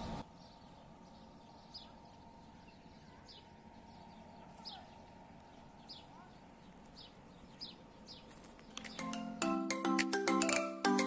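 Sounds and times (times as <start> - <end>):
small bird chirping: 0.0 - 9.4
faint background noise: 0.0 - 11.0.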